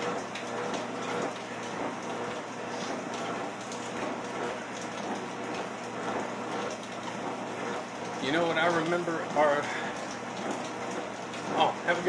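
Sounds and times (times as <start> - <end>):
treadmill running: 0.0 - 12.0.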